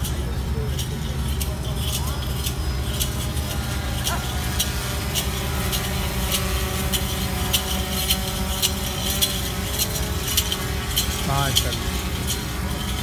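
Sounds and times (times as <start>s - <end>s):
bells jingling: 0.0s - 13.0s
steady low hum: 0.0s - 13.0s.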